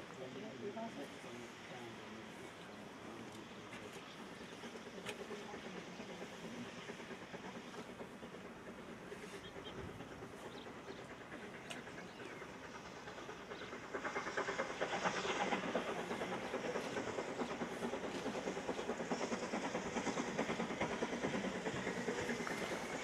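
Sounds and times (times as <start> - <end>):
train wheels clattering over rails: 3.7 - 23.0.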